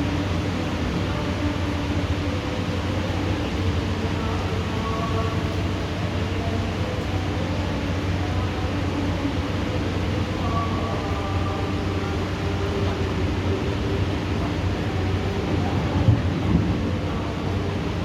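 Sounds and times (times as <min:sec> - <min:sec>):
heavy rain pouring: 0:00.0 - 0:18.0
low steady hum: 0:00.0 - 0:18.0.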